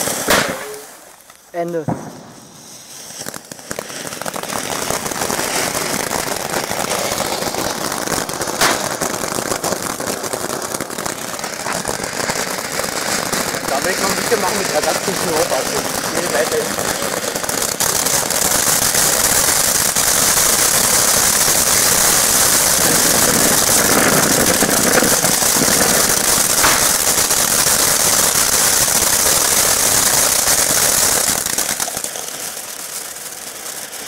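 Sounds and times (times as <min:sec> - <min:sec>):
firework hissing and crackling: 0:00.0 - 0:34.0.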